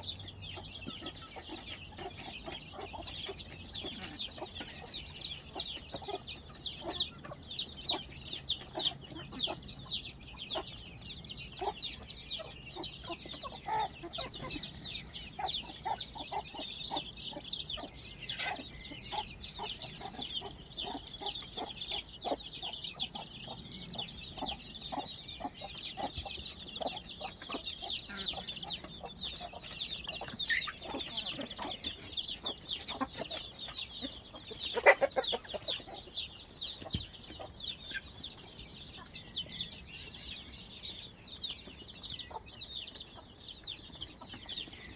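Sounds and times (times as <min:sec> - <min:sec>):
chickens clucking: 0:00.0 - 0:44.9
chicks peeping: 0:00.0 - 0:44.9.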